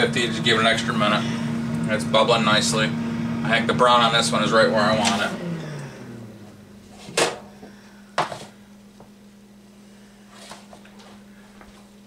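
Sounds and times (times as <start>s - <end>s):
low hum: 0.0s - 10.3s.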